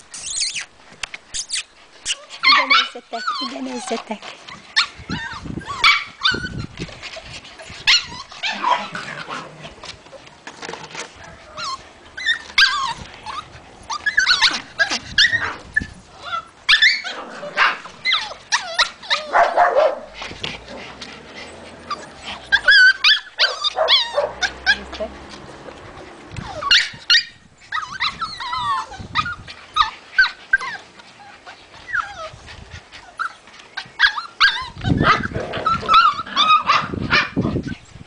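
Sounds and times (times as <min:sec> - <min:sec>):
puppies yapping and barking: 0:00.0 - 0:38.0.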